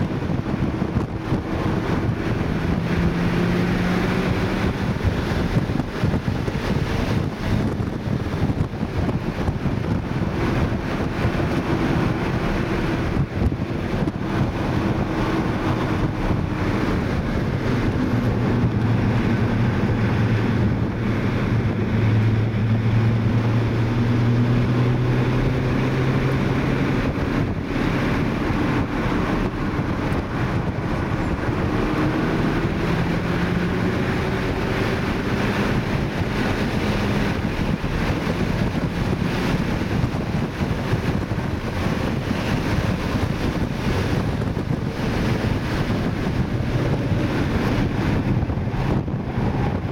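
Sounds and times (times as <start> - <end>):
car engine from inside cabin: 0.0 - 49.9
wind and road noise: 0.0 - 49.9.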